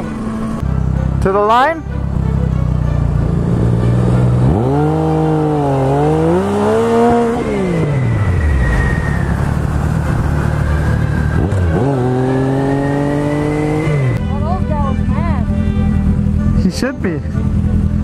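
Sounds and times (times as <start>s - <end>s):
motorcycle engine revving: 0.0s - 1.2s, 1.8s - 18.0s.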